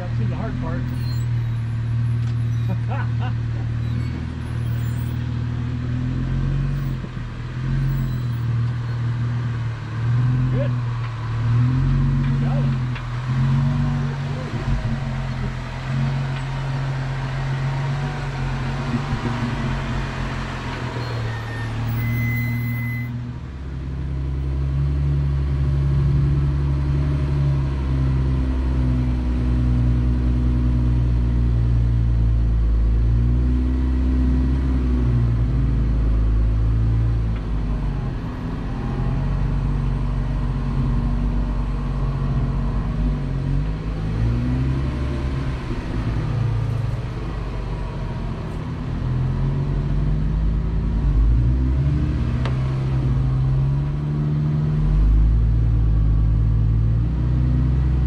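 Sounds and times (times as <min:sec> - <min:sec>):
car engine running at low speed: 0:00.0 - 0:58.0.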